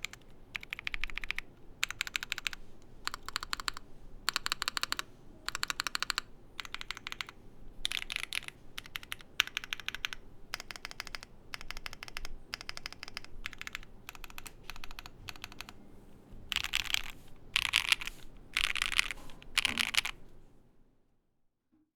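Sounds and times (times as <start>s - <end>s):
mechanical keyboard typing: 0.0s - 15.8s, 16.5s - 20.2s.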